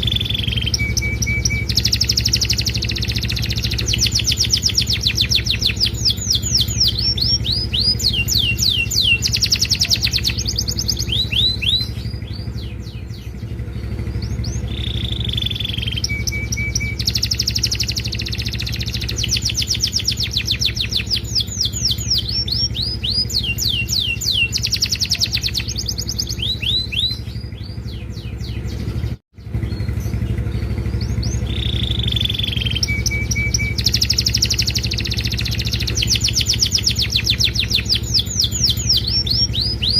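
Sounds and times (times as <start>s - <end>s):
canary singing: 0.0s - 39.9s
steady low hum: 0.0s - 39.9s.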